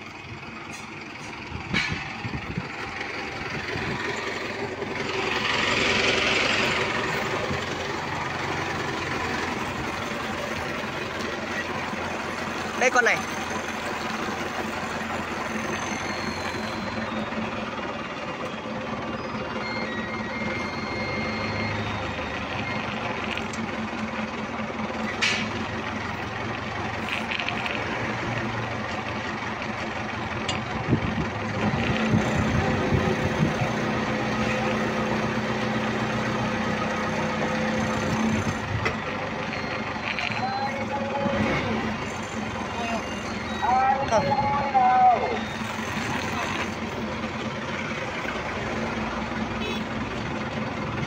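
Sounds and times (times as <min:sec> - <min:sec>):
forklift engine running: 0:00.0 - 0:51.0.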